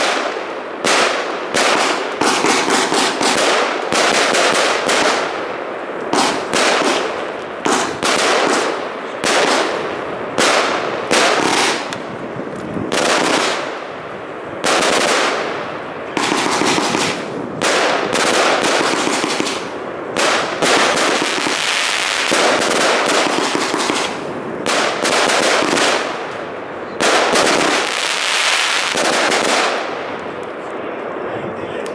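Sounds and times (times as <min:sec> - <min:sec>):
firework shells bursting and crackling: 0:00.0 - 0:30.6.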